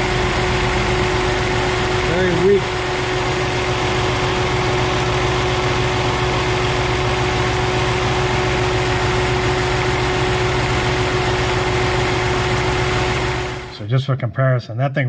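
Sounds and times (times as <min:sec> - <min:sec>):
car engine idling with misfire: 0:00.0 - 0:13.8
steady whine: 0:00.0 - 0:13.9.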